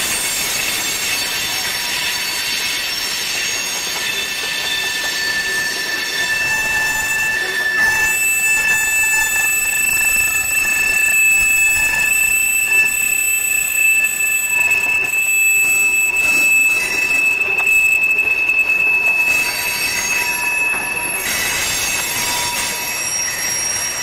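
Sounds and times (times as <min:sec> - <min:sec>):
rumble of freight cars: 0:00.0 - 0:24.0
train wheels squealing on rail: 0:00.0 - 0:24.0.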